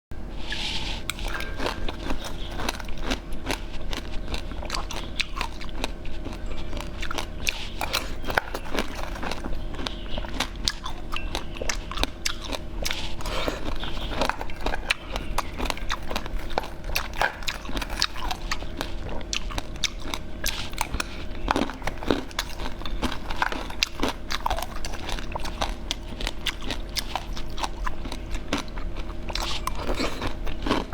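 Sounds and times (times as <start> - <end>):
low hum: 0.2 - 29.8
person chewing and crunching: 0.4 - 30.9.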